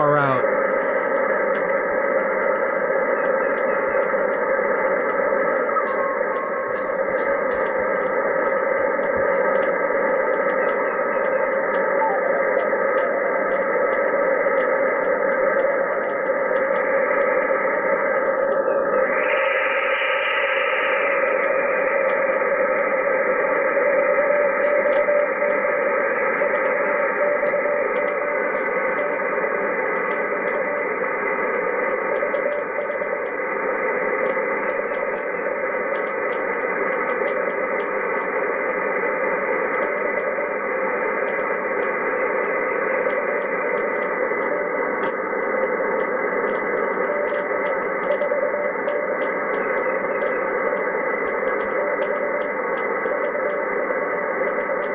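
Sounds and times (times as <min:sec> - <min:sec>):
faint steady radio tones: 0:00.0 - 0:54.9
radio static: 0:00.0 - 0:54.9.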